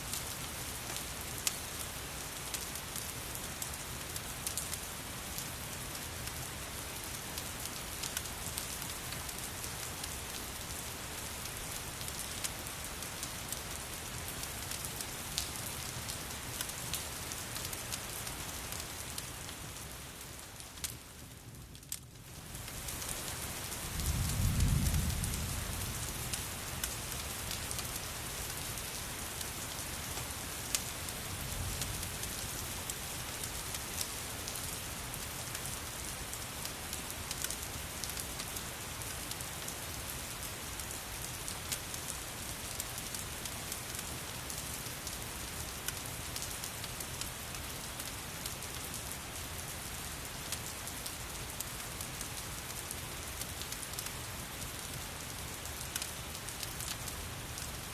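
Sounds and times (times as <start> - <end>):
wood fire crackling: 0.1 - 57.9.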